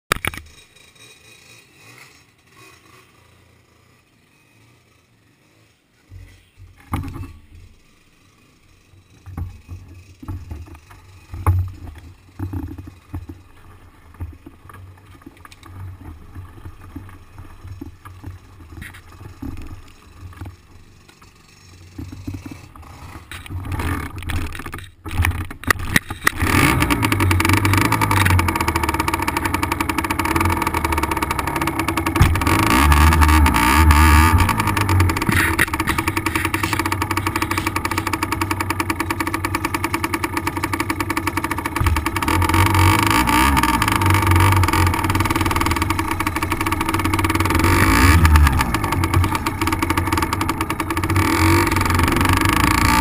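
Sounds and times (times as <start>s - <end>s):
dirt bike engine revving: 0.5s - 14.2s, 21.5s - 24.5s, 25.8s - 53.0s.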